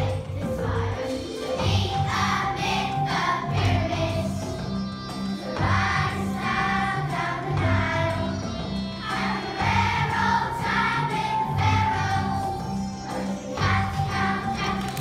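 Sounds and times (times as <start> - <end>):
children singing together: 0.0 - 15.0
musical accompaniment with bass: 0.0 - 15.0.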